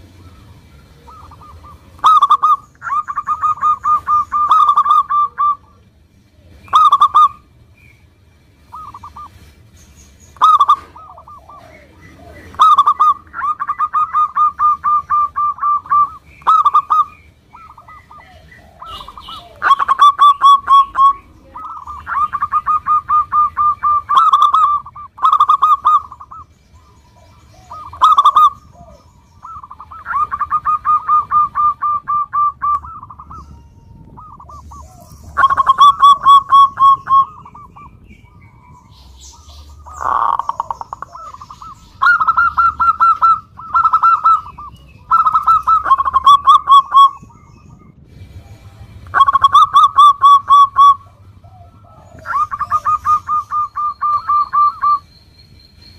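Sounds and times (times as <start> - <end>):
dove cooing: 0.0 - 7.7, 8.7 - 9.7, 10.4 - 55.0.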